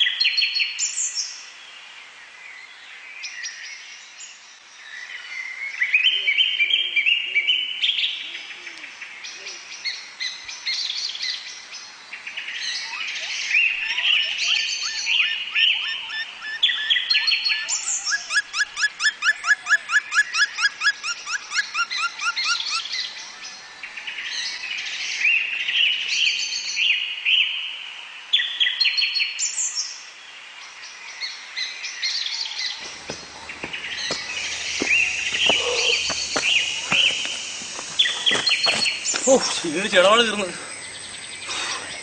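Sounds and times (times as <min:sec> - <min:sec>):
birds chirping and trilling: 0:02.2 - 0:27.4, 0:30.6 - 0:42.0.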